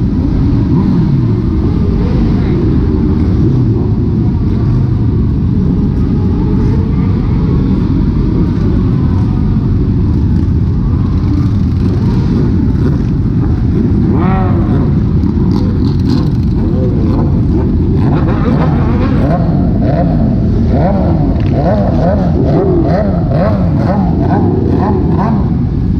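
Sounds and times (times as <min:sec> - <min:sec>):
motorcycle engines rumbling: 0:00.0 - 0:25.9.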